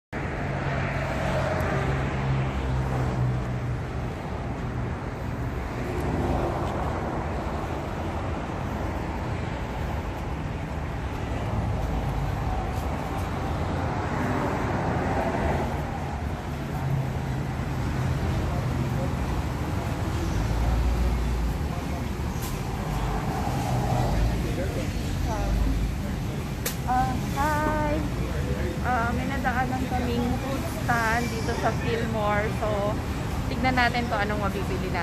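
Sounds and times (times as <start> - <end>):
vehicles passing on highway: 0.2 - 35.0.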